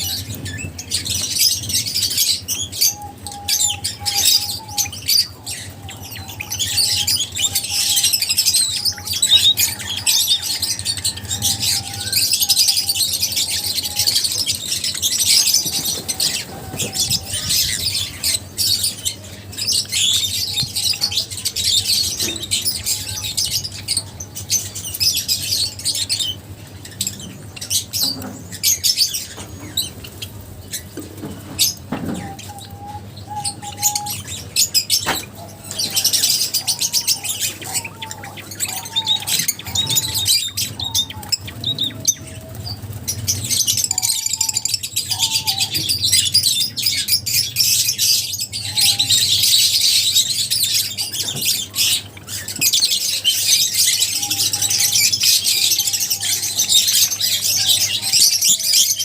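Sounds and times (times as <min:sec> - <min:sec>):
birds chattering and chirping: 0:00.0 - 0:59.0.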